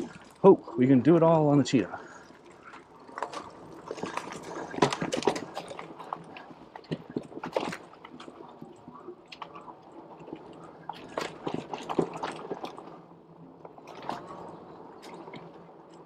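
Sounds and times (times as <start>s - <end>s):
bike rattling: 0.0s - 13.0s, 13.6s - 16.0s.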